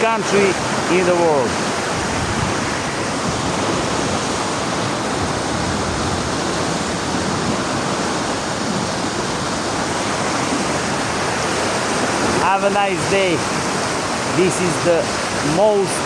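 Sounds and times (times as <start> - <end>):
water rushing through channel: 0.0 - 16.0.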